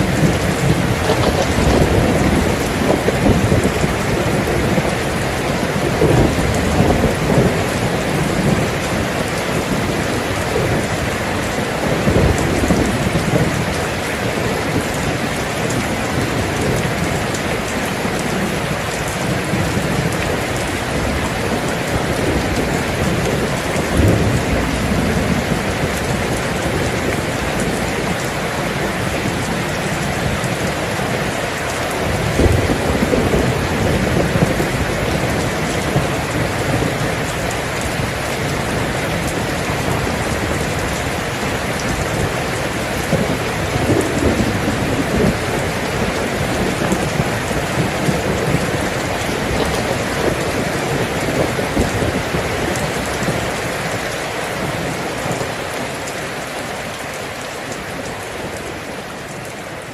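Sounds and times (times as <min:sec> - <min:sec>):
steady rain falling: 0:00.0 - 0:59.9
thunder rumbling: 0:00.0 - 0:59.9.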